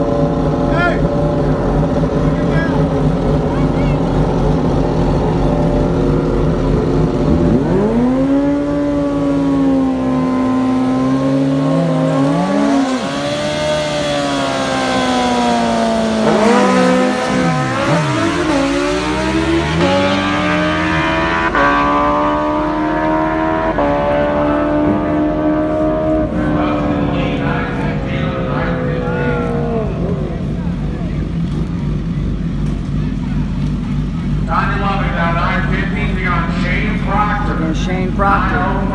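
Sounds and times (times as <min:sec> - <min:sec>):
motorcycle engine revving hard: 0:00.0 - 0:38.9.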